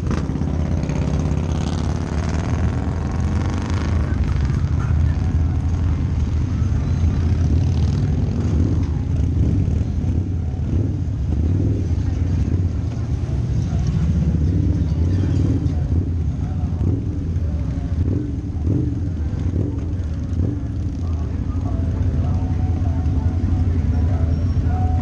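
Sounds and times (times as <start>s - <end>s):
higher engine note: 0.0s - 25.0s
motorcycle engine rumbling: 0.0s - 25.0s
other motorcycles: 0.0s - 25.0s.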